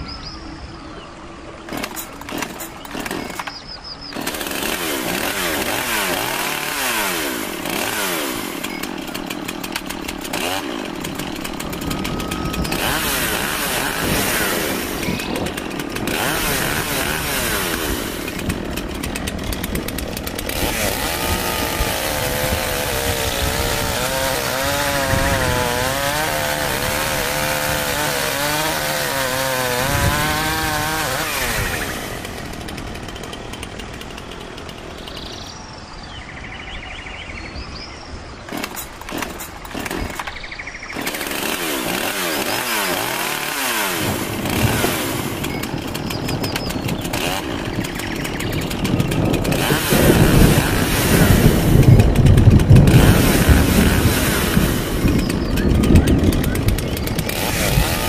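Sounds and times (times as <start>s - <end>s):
chainsaw running at high revs: 1.6s - 35.8s, 38.4s - 58.0s.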